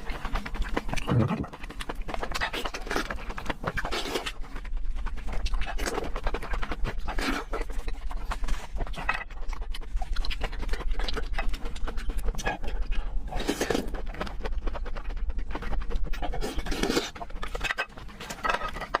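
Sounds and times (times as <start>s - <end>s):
wet chewing and slurping: 0.0s - 19.0s.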